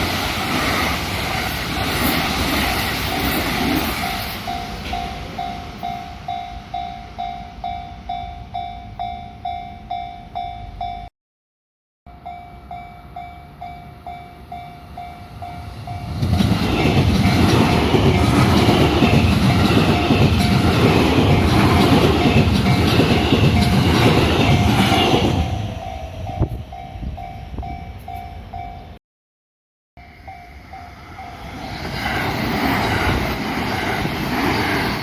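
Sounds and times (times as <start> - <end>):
train passing: 0.0 - 11.1, 12.2 - 29.0, 30.0 - 35.0.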